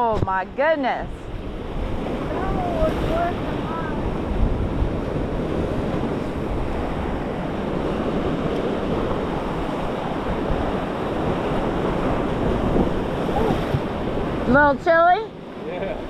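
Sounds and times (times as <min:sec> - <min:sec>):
ocean waves against rocks: 0:00.0 - 0:16.0
wind buffeting microphone: 0:00.0 - 0:16.0.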